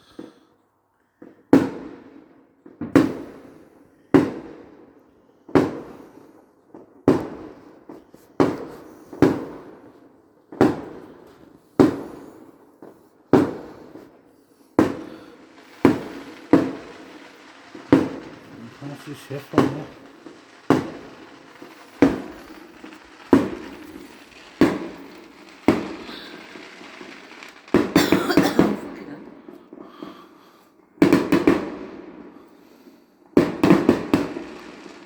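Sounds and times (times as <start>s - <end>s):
fireworks bangs echoing: 1.2s - 35.0s.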